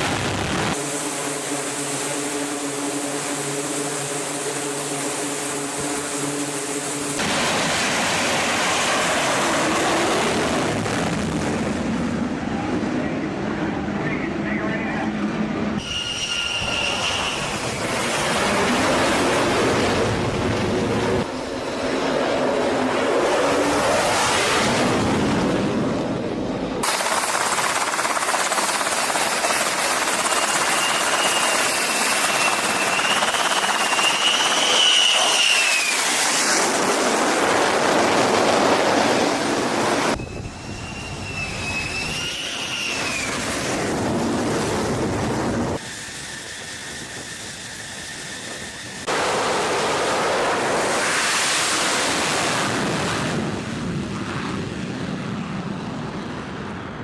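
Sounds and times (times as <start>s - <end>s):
high turbine whine: 0.0s - 57.0s
jet engine running loud: 0.0s - 57.0s.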